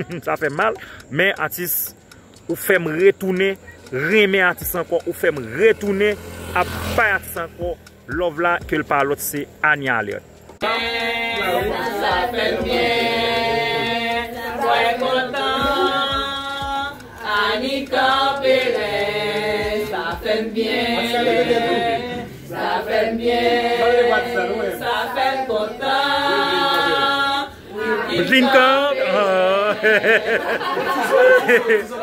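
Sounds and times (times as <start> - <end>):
voices singing together: 0.0 - 32.0.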